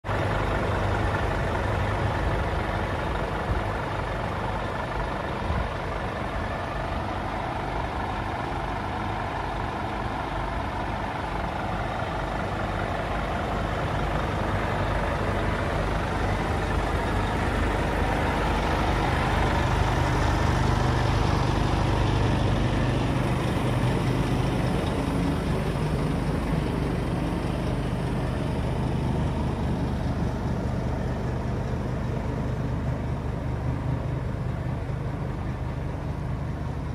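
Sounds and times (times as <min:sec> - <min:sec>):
truck diesel engine idling: 0:00.0 - 0:36.9.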